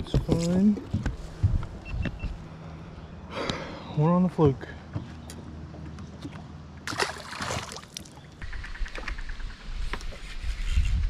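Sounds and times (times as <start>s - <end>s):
boat low hum: 0.0s - 9.7s.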